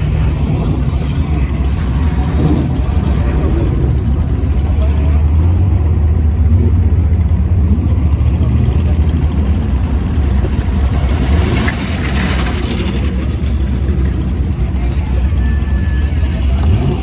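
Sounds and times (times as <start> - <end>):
harsher engine sound: 0.0 - 17.0
racing car engines rumbling: 0.0 - 17.0.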